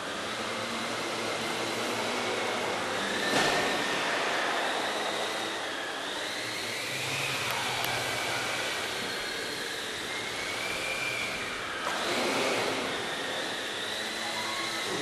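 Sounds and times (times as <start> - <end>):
model plane motor whining: 0.0 - 15.0.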